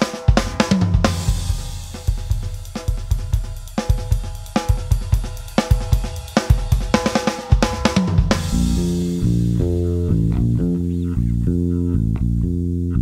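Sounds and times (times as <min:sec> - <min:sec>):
drum kit groove: 0:00.0 - 0:12.2.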